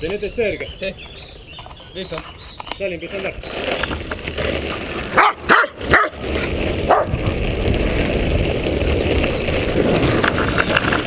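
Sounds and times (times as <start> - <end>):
longboard wheels rolling on asphalt: 0.0 - 11.0.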